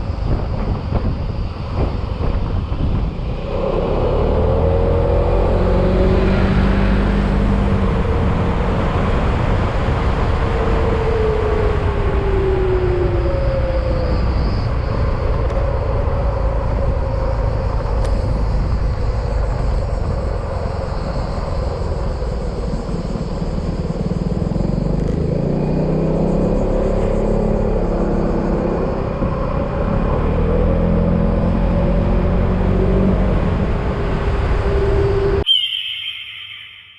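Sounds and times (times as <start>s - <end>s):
road rumble: 0.0s - 35.5s
heavy wind: 0.0s - 36.9s.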